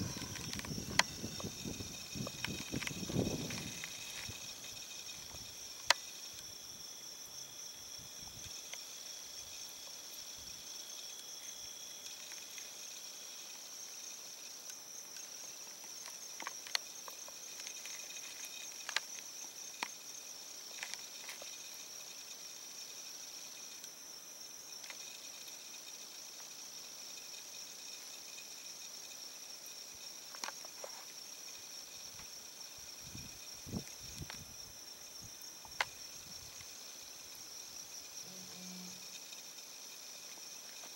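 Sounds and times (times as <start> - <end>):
insects buzzing: 0.0 - 40.9.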